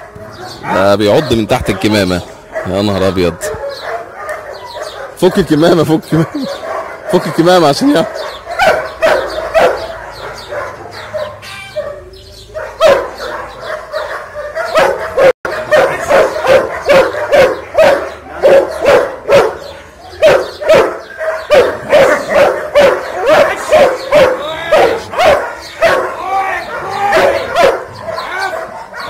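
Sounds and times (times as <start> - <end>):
dog barking aggressively: 0.0 - 29.0.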